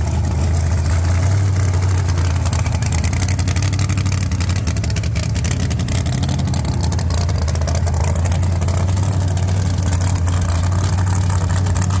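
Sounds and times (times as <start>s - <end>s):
drag car engine idling: 0.0s - 12.0s.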